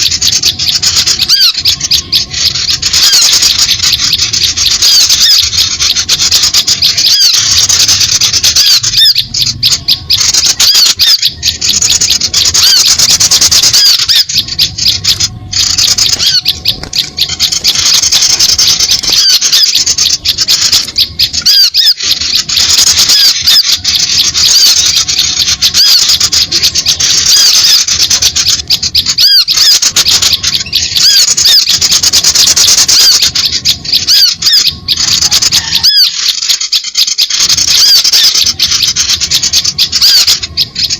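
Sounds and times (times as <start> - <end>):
small songbirds chirping: 0.0 - 40.9.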